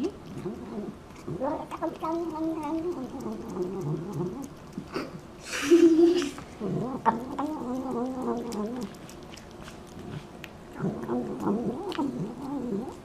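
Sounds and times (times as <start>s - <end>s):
cat murmuring while eating: 0.0s - 13.0s.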